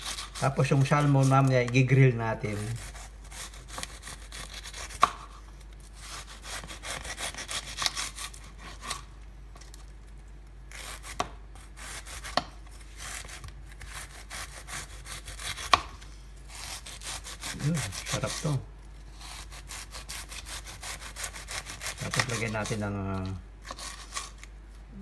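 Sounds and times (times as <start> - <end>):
knife sawing cabbage: 0.0 - 1.5, 2.5 - 5.2, 6.0 - 9.0, 10.7 - 15.9, 16.5 - 24.5.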